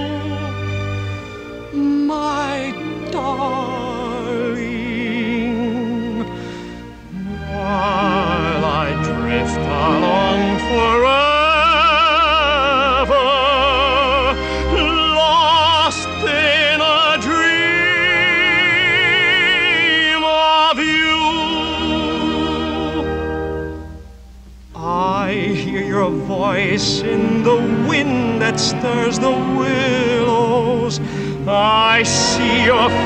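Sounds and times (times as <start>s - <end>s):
operatic tenor singing: 0.0s - 23.9s, 24.7s - 33.0s
orchestral accompaniment: 0.0s - 33.0s.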